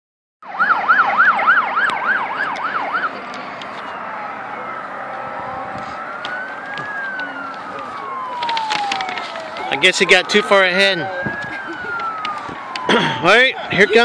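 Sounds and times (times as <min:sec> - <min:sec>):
emergency vehicle siren: 0:00.4 - 0:14.0
road noise: 0:00.4 - 0:14.0.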